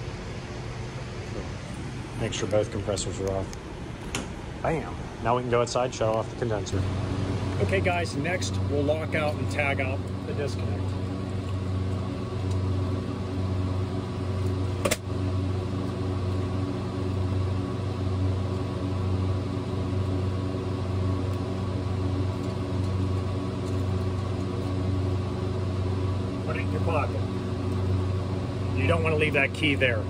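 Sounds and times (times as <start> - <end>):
machinery hum: 0.0 - 30.0.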